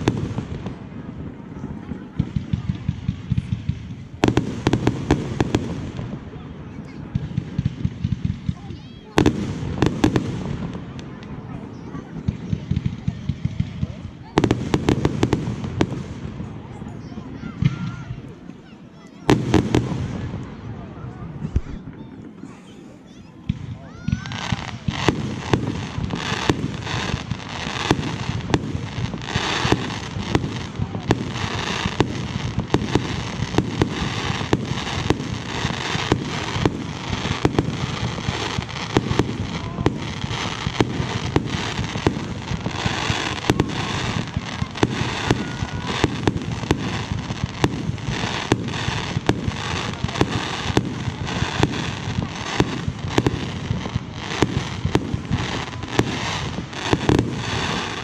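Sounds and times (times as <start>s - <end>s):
fireworks bangs and booms: 0.0s - 58.0s
fireworks crackling and rumble: 0.0s - 58.0s.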